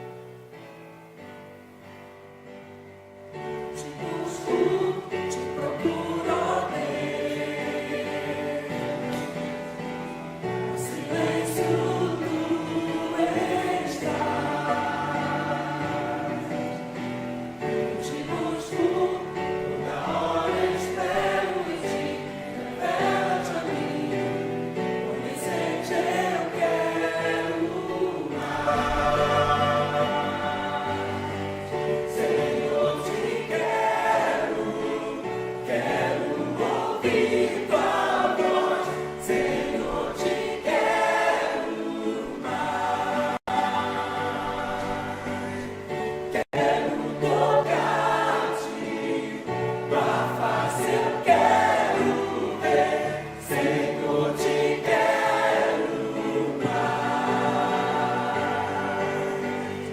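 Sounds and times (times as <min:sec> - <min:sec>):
choir singing a hymn: 0:01.3 - 0:59.9.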